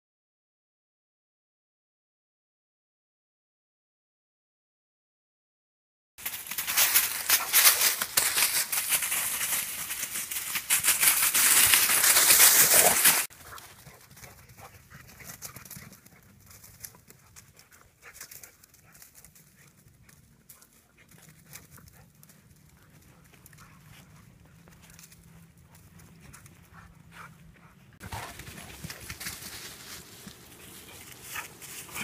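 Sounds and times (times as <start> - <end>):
dogs running on grass: 6.2 - 32.0.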